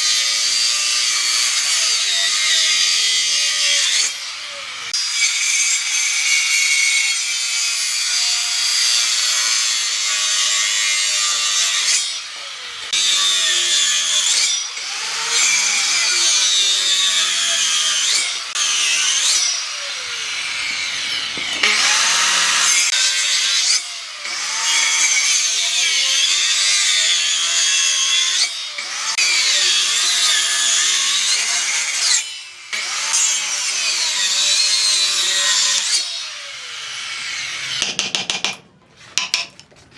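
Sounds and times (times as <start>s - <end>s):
power tool cutting wood: 0.0s - 38.5s.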